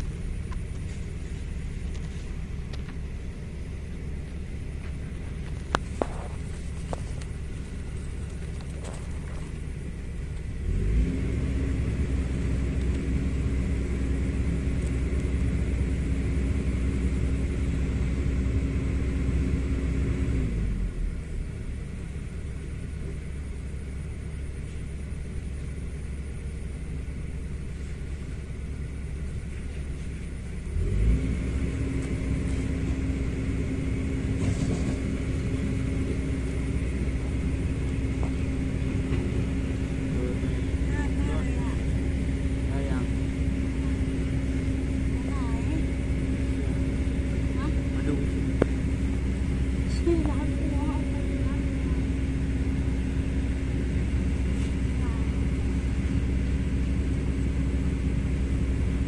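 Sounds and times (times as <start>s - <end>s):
motor humming and rumbling: 0.0s - 59.0s.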